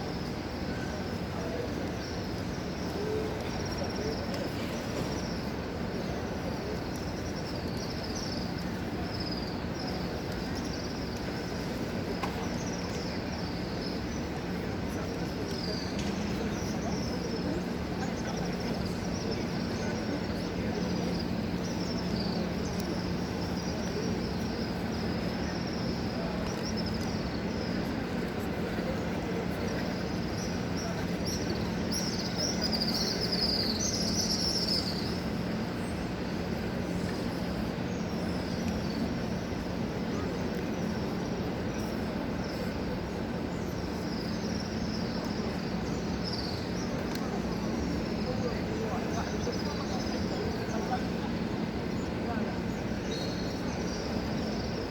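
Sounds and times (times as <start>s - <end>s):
murmur of large crowd: 0.0s - 54.9s.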